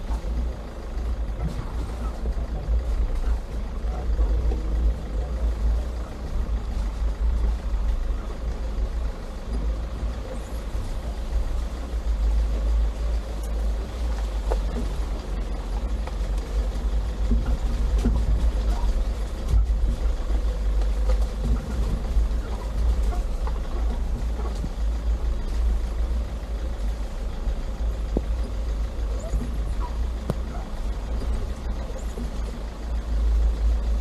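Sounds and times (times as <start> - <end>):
low engine rumble: 0.0 - 34.0.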